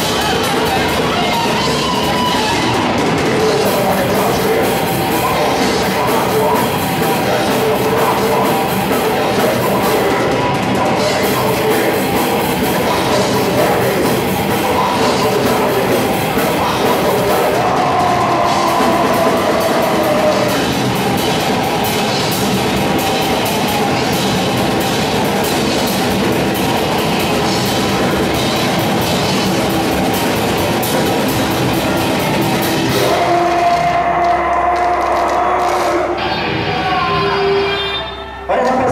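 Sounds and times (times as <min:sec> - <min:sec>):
vocalist on microphone: 0:00.0 - 0:31.1, 0:31.8 - 0:38.9
fast drumming: 0:00.0 - 0:36.2
distorted guitar: 0:00.0 - 0:38.9
heavy metal band playing live: 0:00.0 - 0:38.9.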